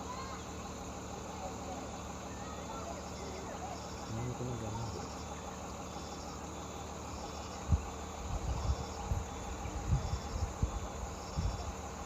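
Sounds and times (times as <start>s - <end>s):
insects chirping: 0.0s - 12.0s
outdoor background: 0.0s - 12.0s.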